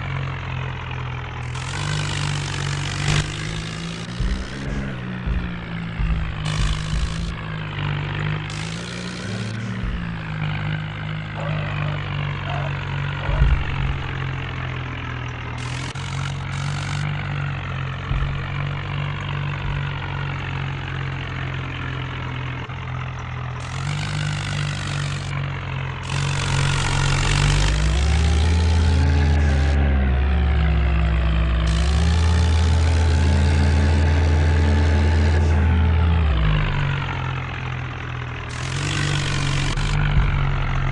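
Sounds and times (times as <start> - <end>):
tractor engine revving: 0.0 - 40.9.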